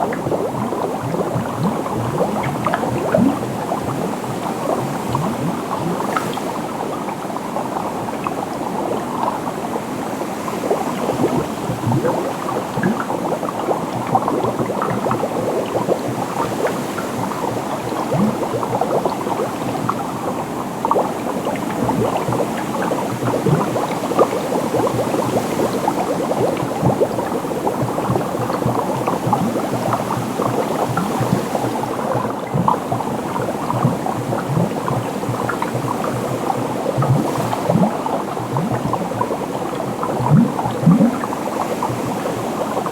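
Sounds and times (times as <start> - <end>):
water bubbling and gurgling: 0.0 - 42.9.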